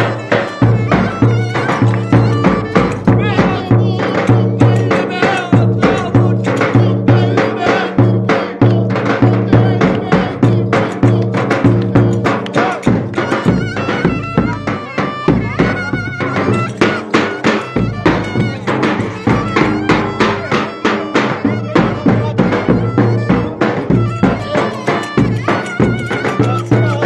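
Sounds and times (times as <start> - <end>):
steady drum beat: 0.0 - 27.0
wind instrument melody: 0.0 - 27.0.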